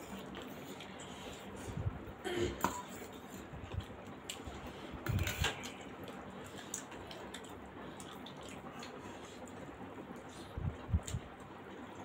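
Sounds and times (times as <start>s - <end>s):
wet chewing sounds: 0.0s - 1.7s, 2.9s - 12.0s.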